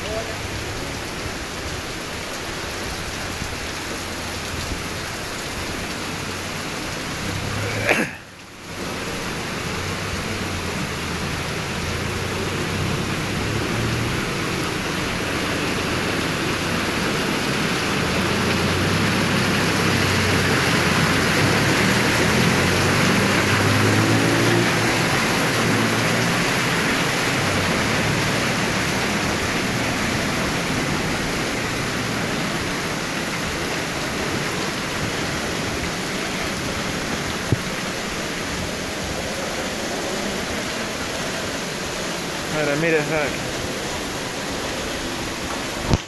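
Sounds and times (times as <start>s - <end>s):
heavy rain pouring on street: 0.0s - 46.0s.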